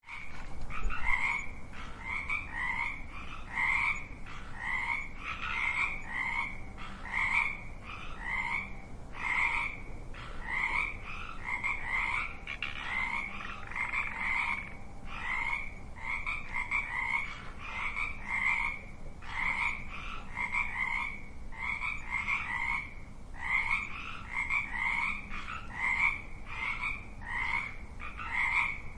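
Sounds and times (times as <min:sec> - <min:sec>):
frogs croaking: 0:00.0 - 0:28.9.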